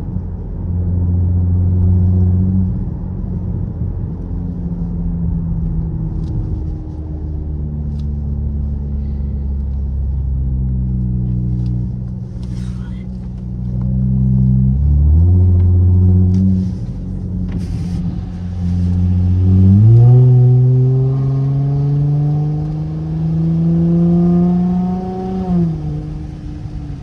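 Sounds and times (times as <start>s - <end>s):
car exhaust engine drone: 0.0s - 27.0s.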